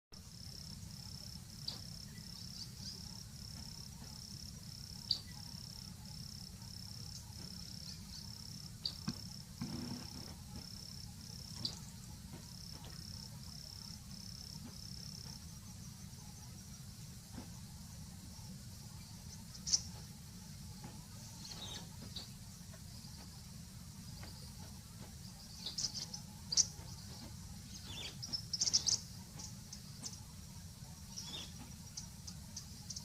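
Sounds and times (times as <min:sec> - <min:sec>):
insect chirping: 0:00.2 - 0:33.0
low steady background hiss: 0:00.2 - 0:33.0.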